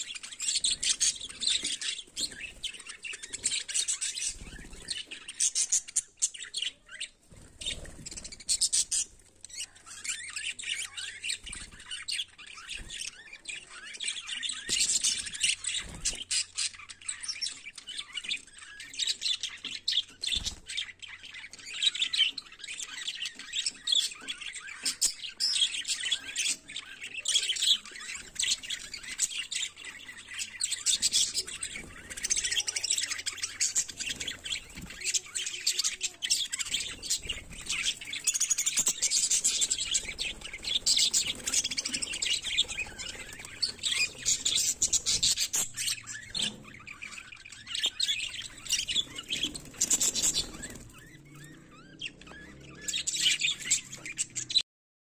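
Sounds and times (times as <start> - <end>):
budgerigars chirping and warbling: 0.0 - 54.6.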